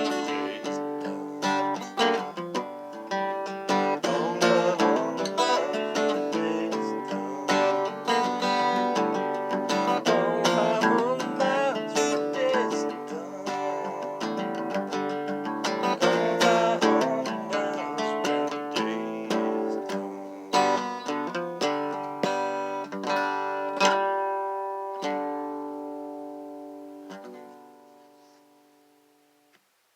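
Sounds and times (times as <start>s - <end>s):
acoustic guitar picking and strumming: 0.0s - 29.2s.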